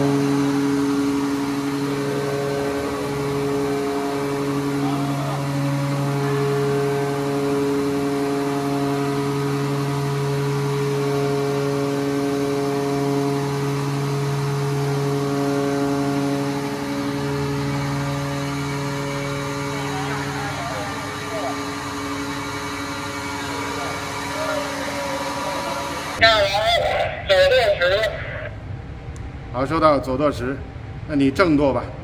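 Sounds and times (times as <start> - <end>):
hydraulic pump hum: 0.0 - 29.4.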